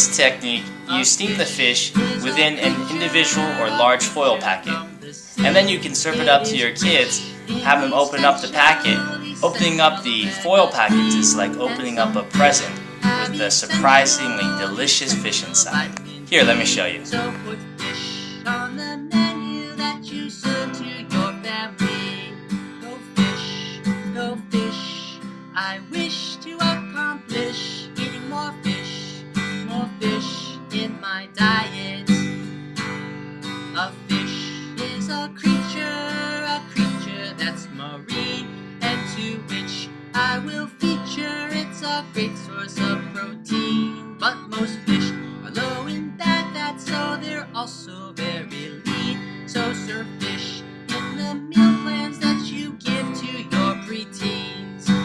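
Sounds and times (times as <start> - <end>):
strummed acoustic guitar: 0.0 - 55.0.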